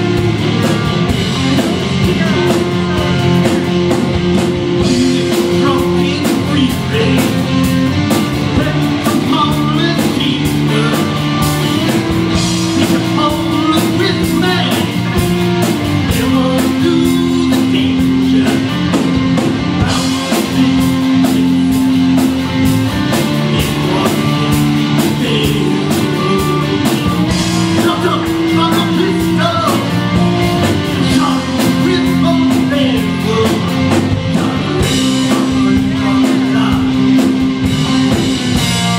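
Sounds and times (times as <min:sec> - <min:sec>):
drum kit beat: 0:00.0 - 0:38.9
electric bass: 0:00.0 - 0:38.9
electric guitar: 0:00.0 - 0:38.9.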